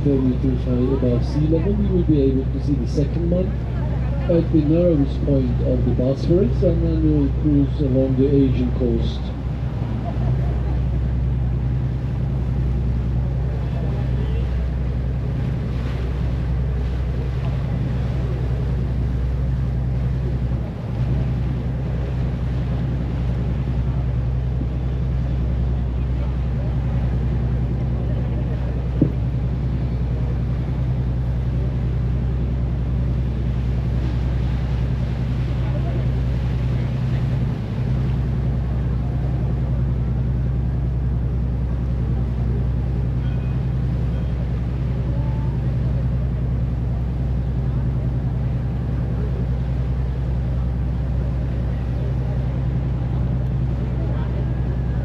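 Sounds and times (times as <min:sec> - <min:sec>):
boat engine humming: 0:00.0 - 0:55.0
water rushing: 0:00.0 - 0:55.0.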